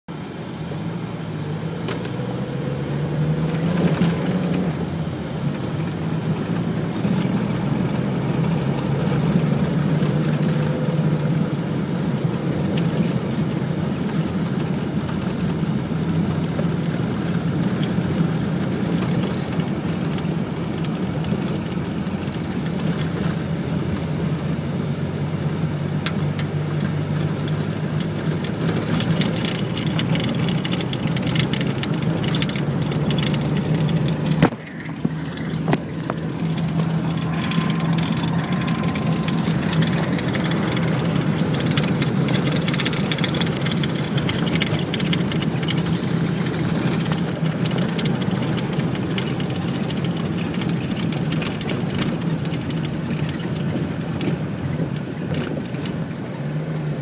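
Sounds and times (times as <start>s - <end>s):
car engine running: 0.1s - 57.0s
tyre noise on road: 0.1s - 57.0s.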